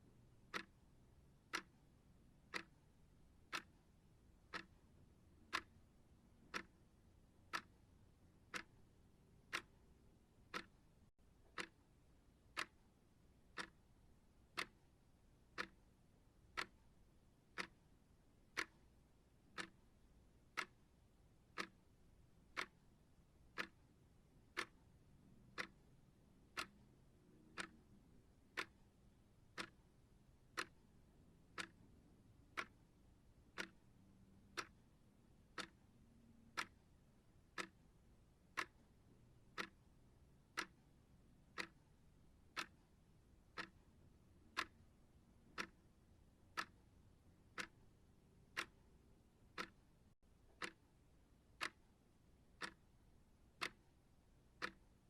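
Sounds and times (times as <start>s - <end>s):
clock ticking: 0.1s - 55.0s.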